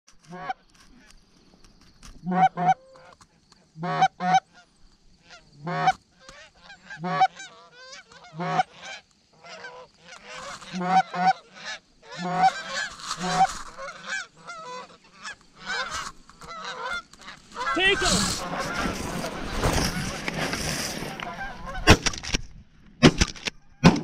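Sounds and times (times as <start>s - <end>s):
geese honking: 2.2s - 22.1s.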